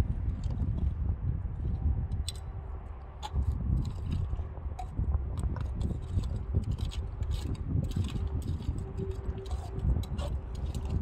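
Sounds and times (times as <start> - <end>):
small clicks and scrapes: 1.6 - 11.0.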